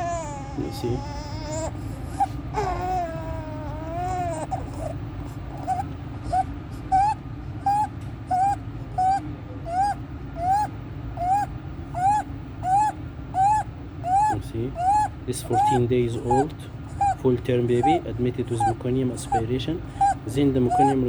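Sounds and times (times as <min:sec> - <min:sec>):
baby rasping rising breaths: 0:00.0 - 0:17.2
newborn baby crying: 0:00.0 - 0:21.0.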